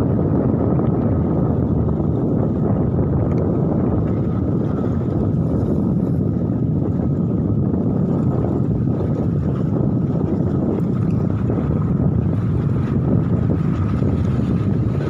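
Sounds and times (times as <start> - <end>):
sea rushing: 0.0 - 15.0
wind on microphone: 0.0 - 15.0.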